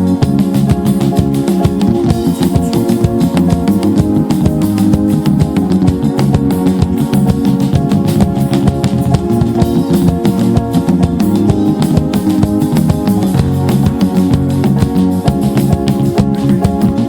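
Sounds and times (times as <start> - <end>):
drum kit beat: 0.0 - 17.0
guitar playing: 0.0 - 17.0.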